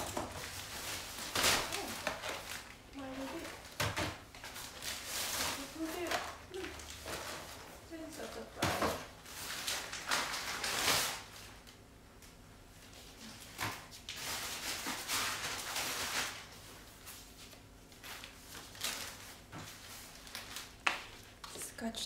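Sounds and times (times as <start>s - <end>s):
plastic bag rustling: 0.0s - 11.7s, 12.8s - 21.8s.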